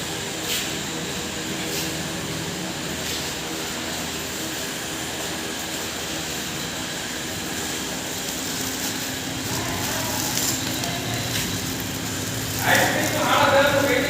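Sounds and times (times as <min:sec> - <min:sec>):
grinding machine hum: 0:00.0 - 0:14.0.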